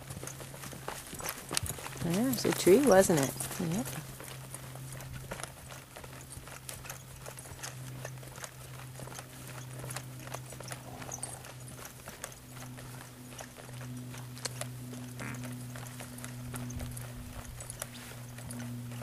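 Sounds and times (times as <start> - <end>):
low hum: 0.0 - 19.0
muffled hoofbeats on dirt: 0.0 - 19.0.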